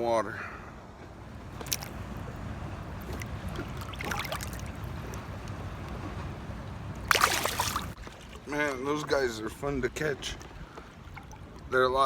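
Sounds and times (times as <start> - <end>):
water lapping around kayak: 0.9 - 12.0.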